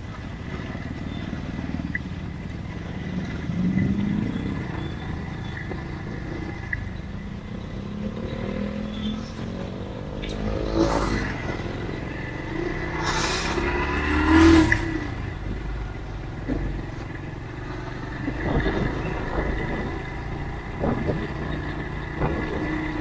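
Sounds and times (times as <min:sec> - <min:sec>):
motorcycle engine rumbling: 0:00.0 - 0:23.0
vehicles passing: 0:00.0 - 0:23.0
loud vehicle passing: 0:02.7 - 0:23.0.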